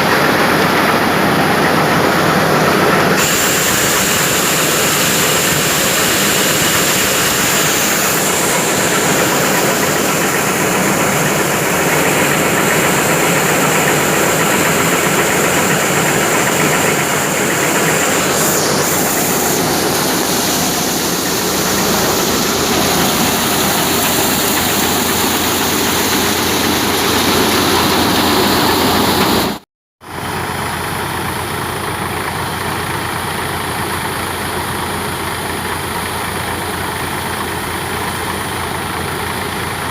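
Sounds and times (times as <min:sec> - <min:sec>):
tractor engine driving thresher: 0:00.0 - 0:39.9.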